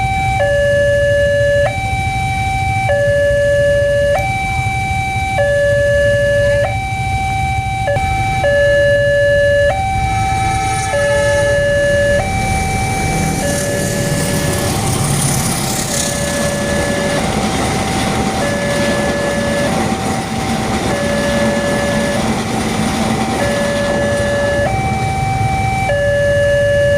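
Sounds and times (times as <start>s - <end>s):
steady low rumble: 0.0s - 26.4s
two-tone level crossing siren: 0.0s - 26.9s.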